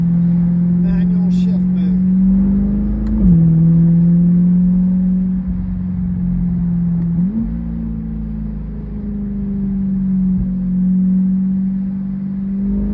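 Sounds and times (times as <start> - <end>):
car engine with gear shifts: 0.0 - 12.9.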